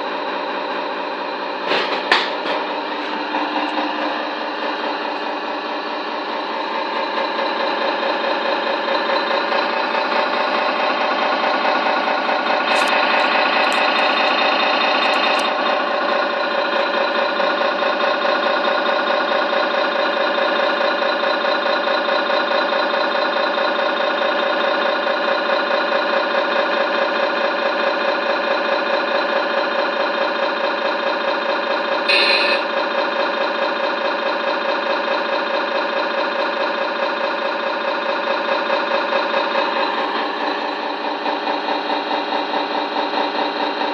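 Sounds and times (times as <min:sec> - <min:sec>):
simulated diesel engine idling: 0:00.0 - 0:43.9.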